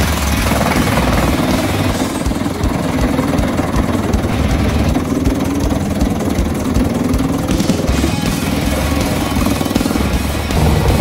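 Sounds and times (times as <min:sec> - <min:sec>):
wood chipper running: 0:00.0 - 0:11.0.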